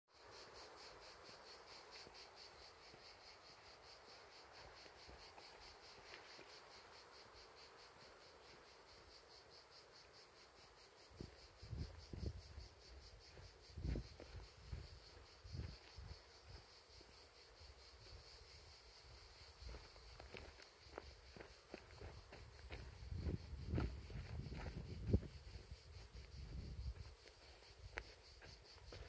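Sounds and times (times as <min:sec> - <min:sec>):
insects chirring: 0:00.1 - 0:29.0
constant high hiss: 0:00.2 - 0:29.0.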